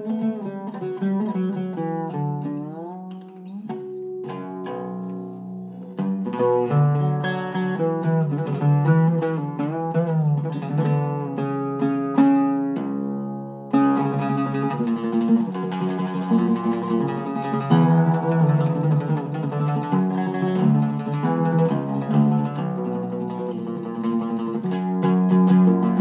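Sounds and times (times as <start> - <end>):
oud plucked notes: 0.0 - 26.0.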